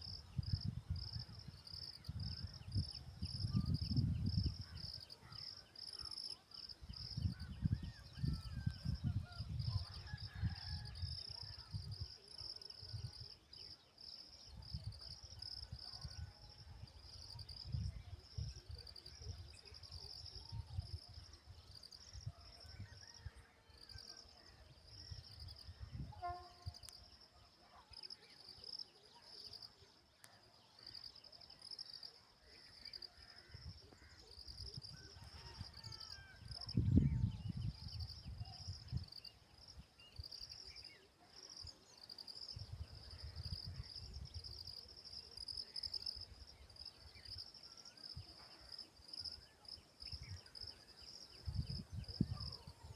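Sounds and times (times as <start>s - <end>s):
insects chirping in trills: 0.0s - 23.3s, 23.9s - 52.9s.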